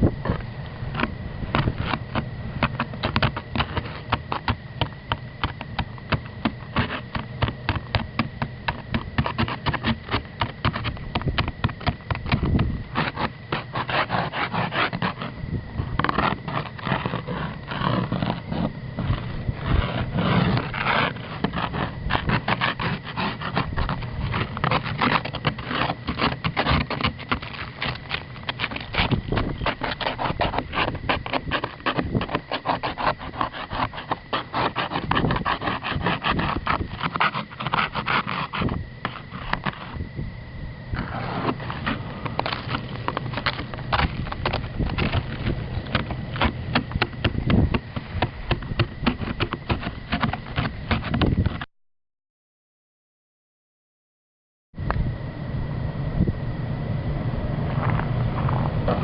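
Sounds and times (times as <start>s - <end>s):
ice being scraped: 1.0s - 40.1s, 40.9s - 51.7s, 57.7s - 59.0s.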